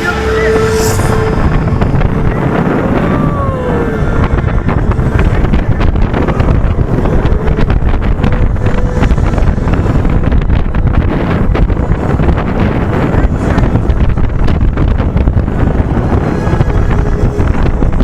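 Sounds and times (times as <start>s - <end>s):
rising and falling tone: 0.0s - 18.0s
roller coaster rumble and rattle: 0.0s - 18.0s
wind buffeting microphone: 0.0s - 18.0s.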